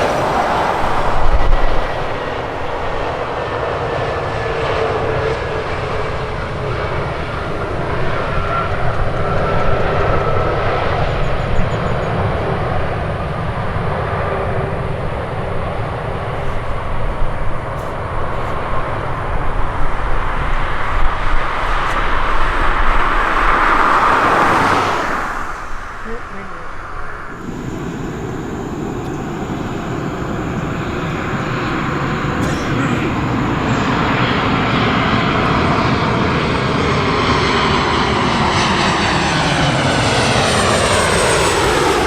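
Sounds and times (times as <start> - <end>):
airliner jet engines rushing: 0.0 - 42.0.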